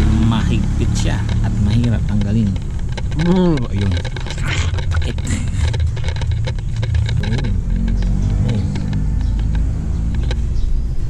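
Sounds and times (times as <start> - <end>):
wind rumbling on microphone: 0.0 - 11.0
metallic clicks and scrapes: 0.1 - 10.8.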